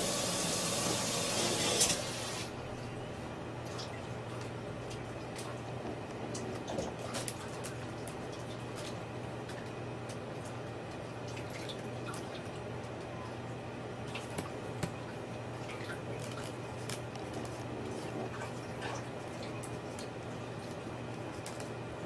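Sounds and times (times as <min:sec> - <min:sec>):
low hum of room tone: 0:00.0 - 0:22.0.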